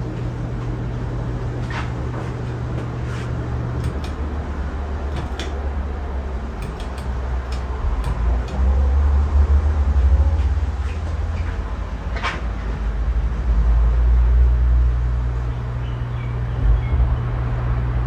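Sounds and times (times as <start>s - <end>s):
ceiling fan motor rumble: 0.0s - 18.0s.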